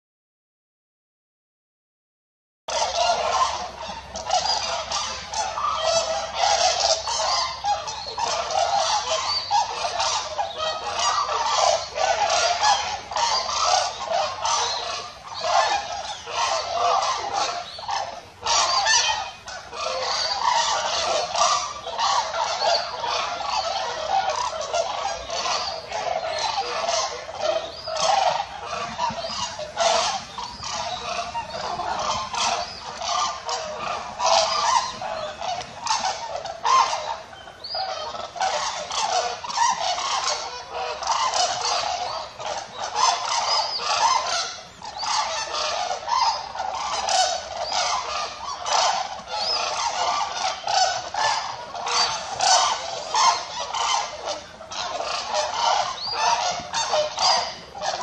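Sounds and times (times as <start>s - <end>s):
cranes calling: 2.7s - 58.0s.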